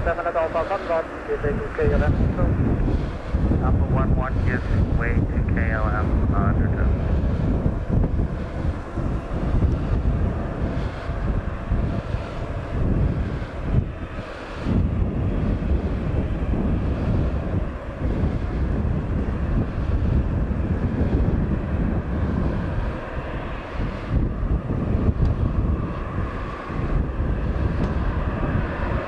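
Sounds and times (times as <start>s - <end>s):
jet engines rumbling: 0.0s - 29.0s
wind buffeting microphone: 0.0s - 29.0s.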